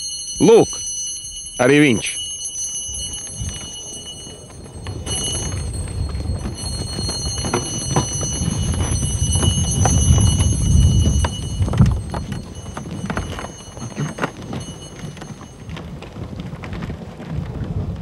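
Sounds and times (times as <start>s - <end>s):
horse hooves clip-clopping: 0.0s - 18.0s.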